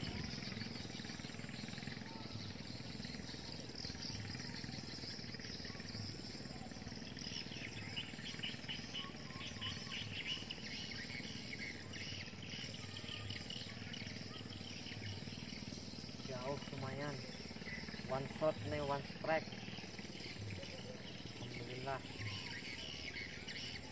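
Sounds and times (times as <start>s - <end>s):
high chirping calls: 0.0s - 23.9s
outdoor background noise: 0.0s - 23.9s.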